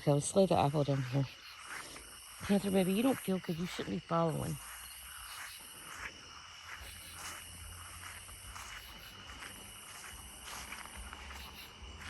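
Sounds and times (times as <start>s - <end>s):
crickets chirping: 0.0s - 12.0s
soft rustles and ticks: 0.2s - 12.0s.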